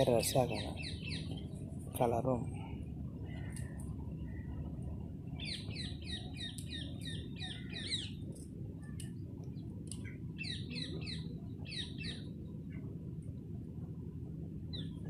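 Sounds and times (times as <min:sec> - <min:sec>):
small birds chirping: 0:00.0 - 0:12.9, 0:14.7 - 0:15.0
low background rumble: 0:00.0 - 0:15.0.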